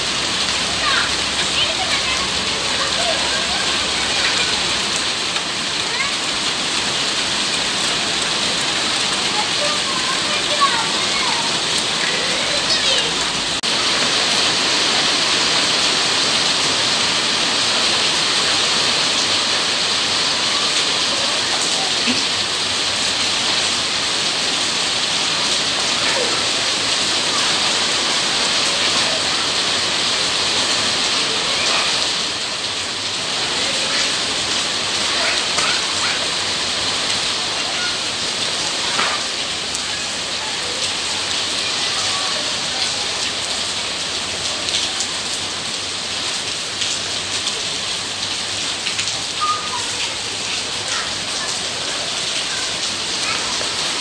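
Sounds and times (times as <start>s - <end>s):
rain on wet paving and puddles: 0.0s - 54.0s.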